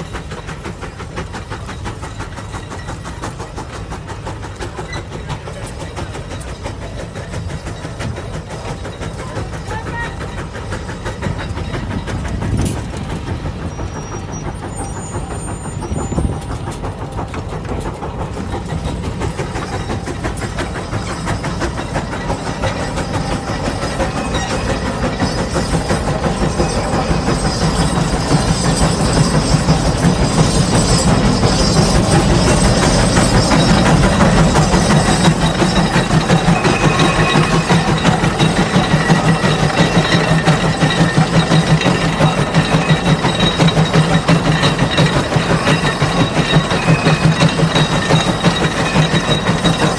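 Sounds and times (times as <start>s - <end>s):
steam engine exhaust beating: 0.0s - 49.9s.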